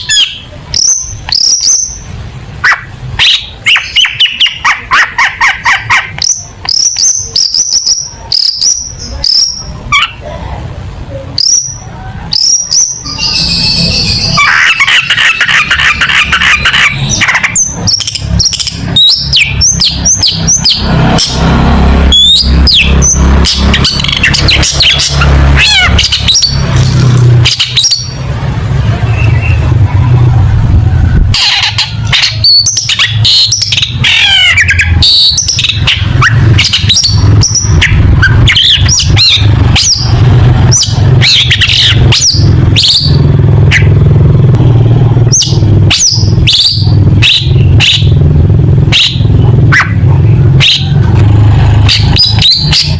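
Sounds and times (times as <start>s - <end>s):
bird singing chirps and trills: 0.0s - 10.4s, 11.1s - 30.1s, 31.2s - 44.1s, 45.2s - 51.2s, 51.8s - 52.9s.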